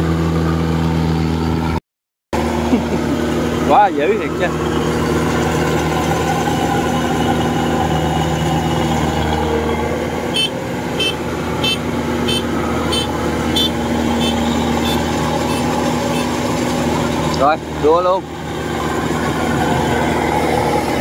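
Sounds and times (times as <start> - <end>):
combine harvester engine drone: 0.0 - 1.8, 2.4 - 21.0.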